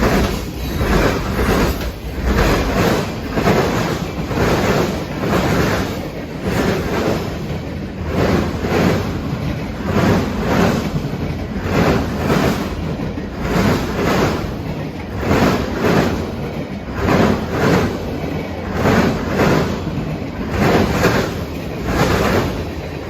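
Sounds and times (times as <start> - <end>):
freight train cars rolling past: 0.0 - 23.0.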